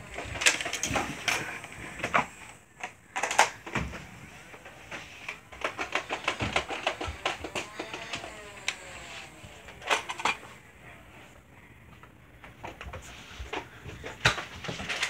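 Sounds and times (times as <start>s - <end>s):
clicks knocks and rustles of handling: 0.0s - 10.5s, 11.9s - 15.0s.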